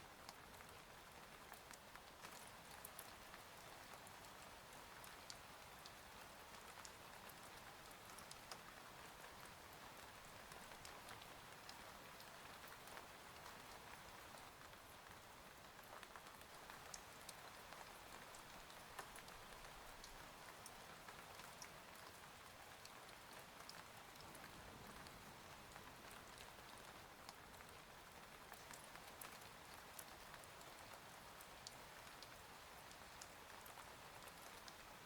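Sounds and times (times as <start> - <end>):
rain on a window: 0.0 - 35.0.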